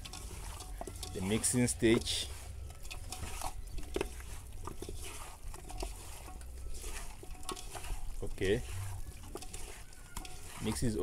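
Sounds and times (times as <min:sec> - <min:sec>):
wet squelching of mixing meat: 0:00.0 - 0:11.0.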